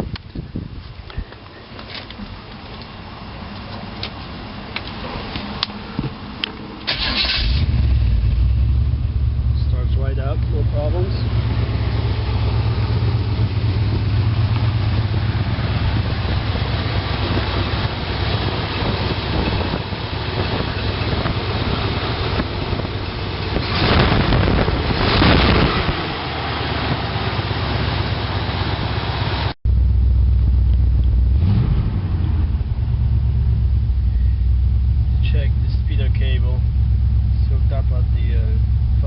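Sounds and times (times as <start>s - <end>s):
car engine idling: 0.0s - 39.0s
engine throttle blip: 6.8s - 39.0s.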